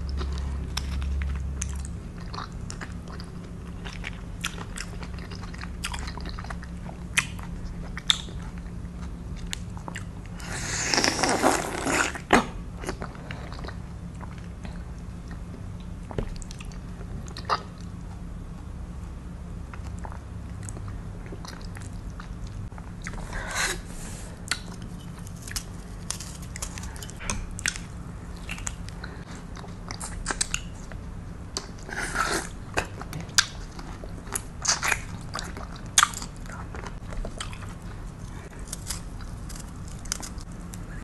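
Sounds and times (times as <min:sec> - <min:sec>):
person chewing: 0:00.0 - 0:15.5, 0:19.7 - 0:41.0
steady low hum: 0:00.0 - 0:41.0.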